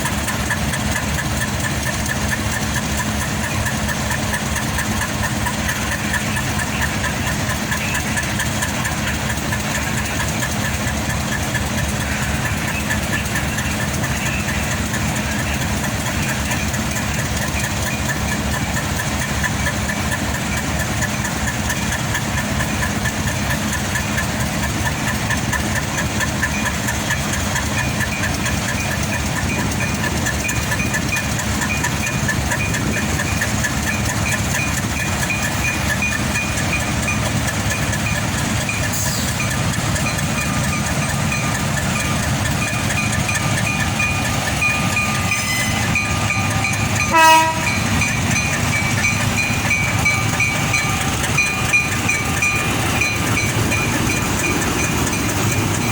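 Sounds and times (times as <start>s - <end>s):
high-pitched ticking: 0.0s - 55.9s
locomotive engine rumble: 0.0s - 55.9s.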